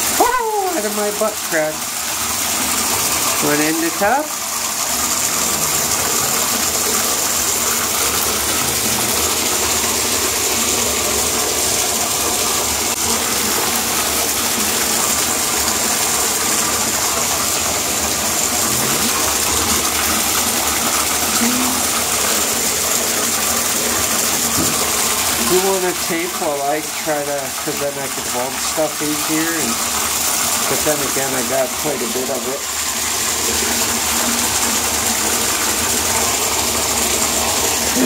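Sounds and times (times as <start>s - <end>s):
water running into a bathtub: 0.0s - 38.0s.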